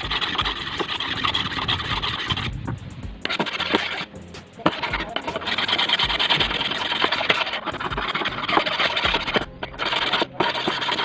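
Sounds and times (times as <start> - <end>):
abrasive scraping steel: 0.0 - 11.0.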